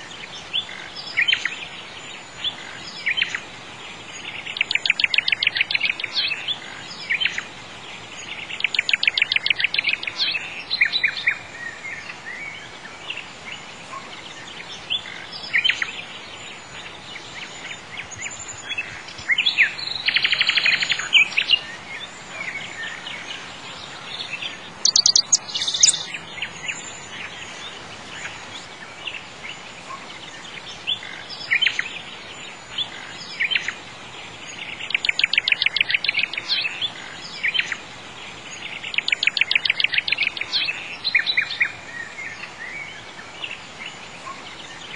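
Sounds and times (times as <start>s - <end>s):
faint steady hiss: 0.0s - 44.9s
songbirds singing: 0.0s - 44.9s.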